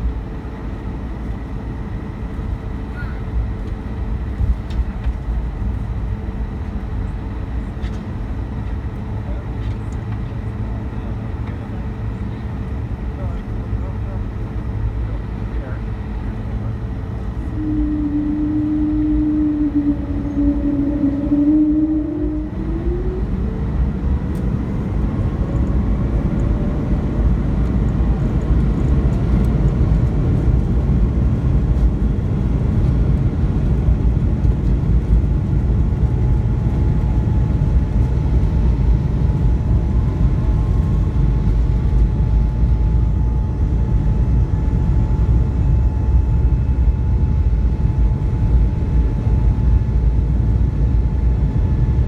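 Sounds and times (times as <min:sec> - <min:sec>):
jet engine whine: 0:00.0 - 0:52.0
loud steady engine rumble: 0:00.0 - 0:52.0.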